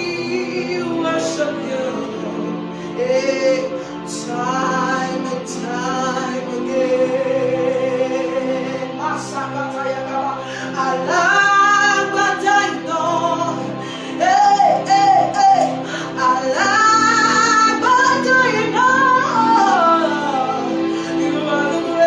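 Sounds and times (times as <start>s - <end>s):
person singing slow melody: 0.0s - 22.0s
sustained accompanying chords: 0.0s - 22.0s.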